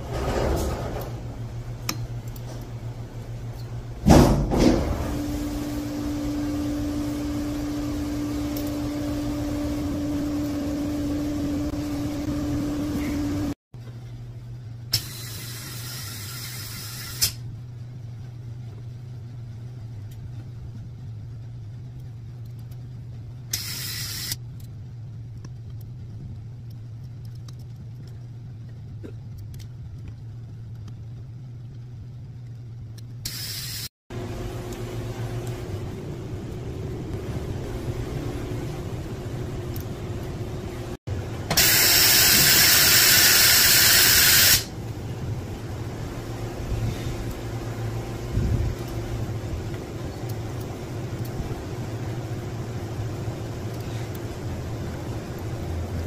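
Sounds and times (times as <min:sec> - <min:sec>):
workshop machine hum: 0:00.0 - 0:56.0.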